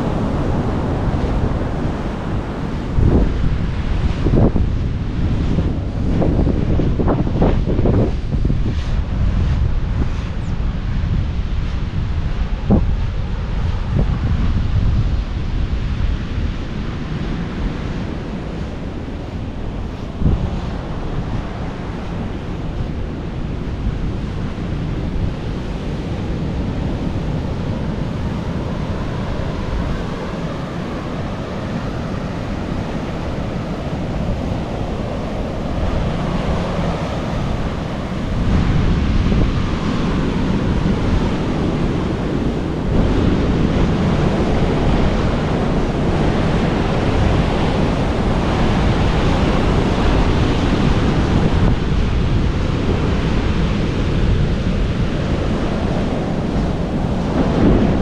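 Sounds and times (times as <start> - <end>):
ocean surf washing ashore: 0.0 - 58.0
wind buffeting microphone: 0.0 - 58.0.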